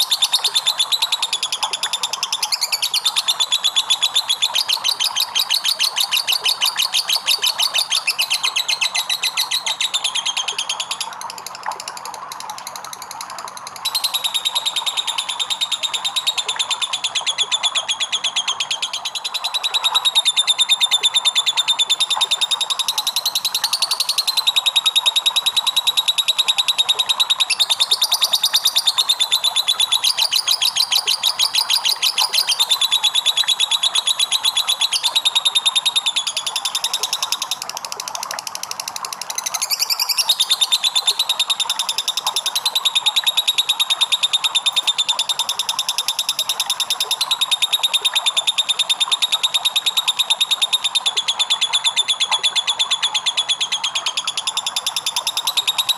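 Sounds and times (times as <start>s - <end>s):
lovebird chattering trill: 0.0s - 11.6s, 13.8s - 37.7s, 39.3s - 55.9s.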